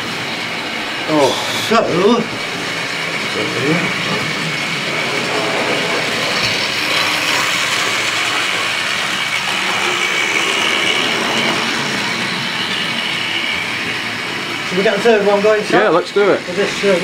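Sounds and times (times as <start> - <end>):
model train motor whirring: 0.0 - 17.0
wheels rattling over track: 0.0 - 17.0.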